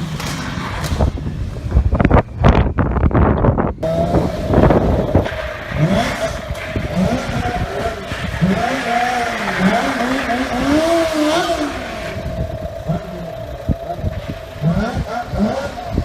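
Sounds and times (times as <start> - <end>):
motorcycle engine revving: 0.0 - 16.0
wind buffeting microphone: 0.0 - 16.0.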